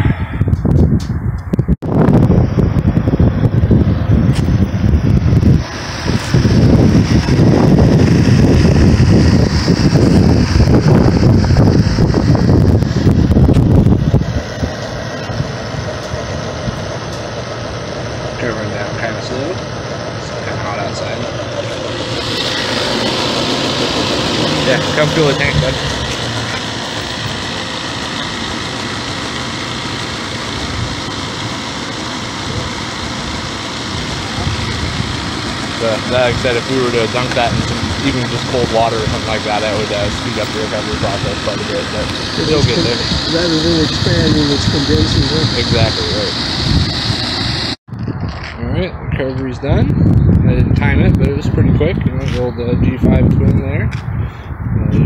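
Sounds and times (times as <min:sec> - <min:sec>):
wind buffeting microphone: 0:00.0 - 0:31.5, 0:32.4 - 0:55.0
refrigerant recovery machine running: 0:02.1 - 0:47.8.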